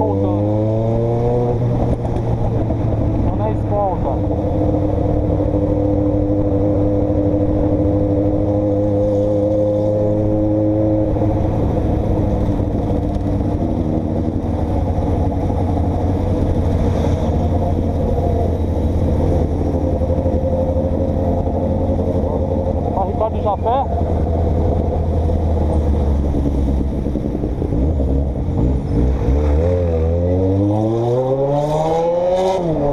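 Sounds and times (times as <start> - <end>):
vehicle engine running: 0.0 - 30.2
road noise: 0.0 - 32.9.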